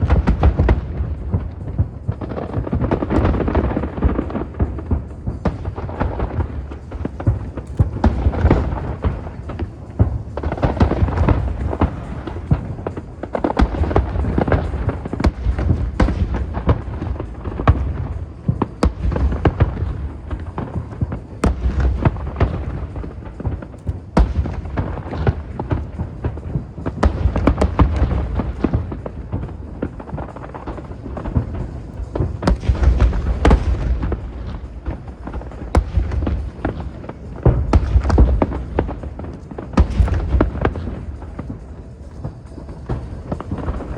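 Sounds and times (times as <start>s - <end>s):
fireworks cracking: 0.0s - 43.9s
low rumble of fireworks booms: 0.0s - 43.9s.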